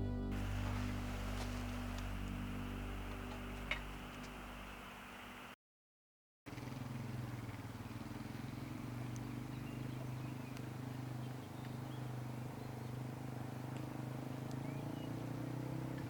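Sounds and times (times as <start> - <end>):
vehicle engine droning: 0.0 - 5.6, 6.5 - 16.0.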